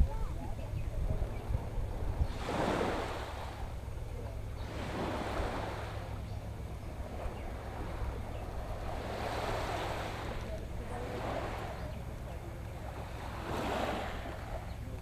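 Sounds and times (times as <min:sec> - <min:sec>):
small waves washing onto beach: 0:00.0 - 0:15.0
wind rumble on microphone: 0:00.0 - 0:15.0.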